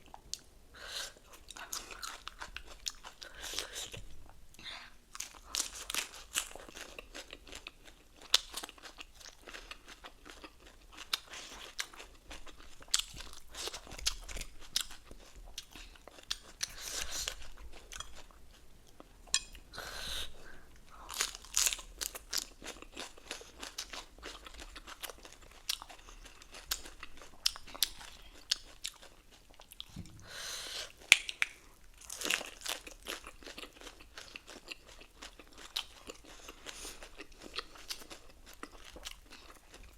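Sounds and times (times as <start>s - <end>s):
crunching and chewing lettuce: 1.3s - 4.0s, 5.1s - 19.5s, 20.9s - 30.0s, 30.9s - 39.9s.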